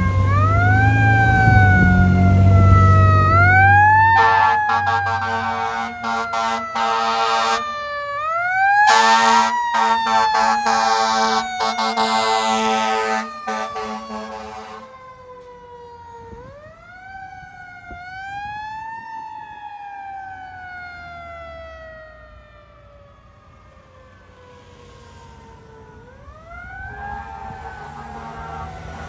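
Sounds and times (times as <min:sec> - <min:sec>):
siren wailing: 0:00.0 - 0:29.0.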